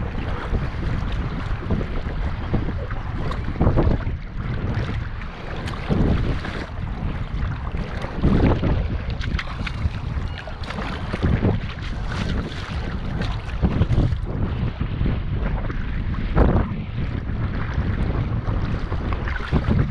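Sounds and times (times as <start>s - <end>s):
water sloshing and splashing: 0.0s - 19.9s
wind rumbling on microphone: 0.0s - 19.9s.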